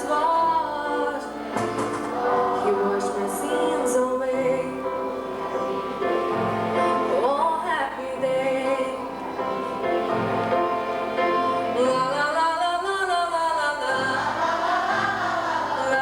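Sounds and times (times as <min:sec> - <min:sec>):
gospel singing with accompaniment: 0:00.0 - 0:16.0.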